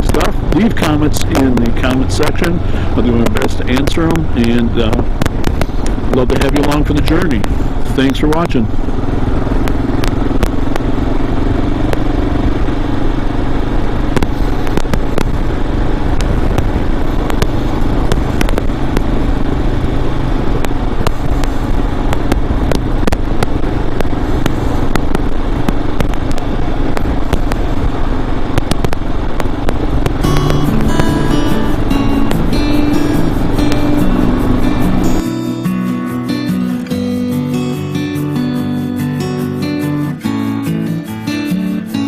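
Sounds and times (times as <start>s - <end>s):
short engine crackles: 0.0s - 35.4s
motorcycle engine cruising: 0.0s - 42.0s
road and wind noise: 0.0s - 42.0s.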